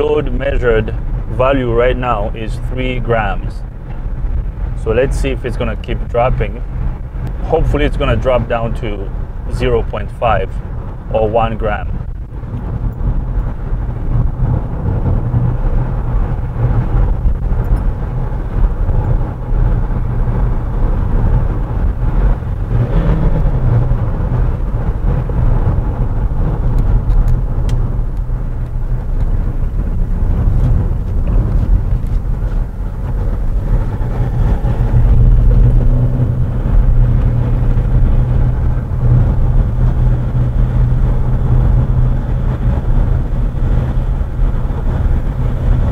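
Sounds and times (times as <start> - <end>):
diesel engine rumble: 0.0 - 45.9
tyre and road noise: 0.0 - 45.9.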